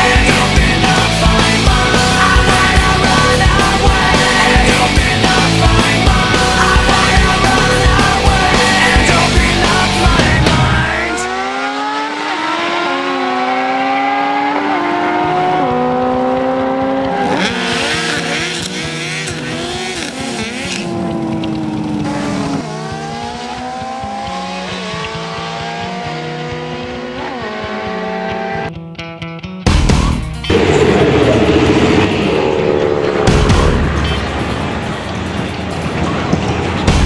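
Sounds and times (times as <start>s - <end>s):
motorcycles accelerating hard: 0.0s - 28.8s, 30.5s - 37.0s.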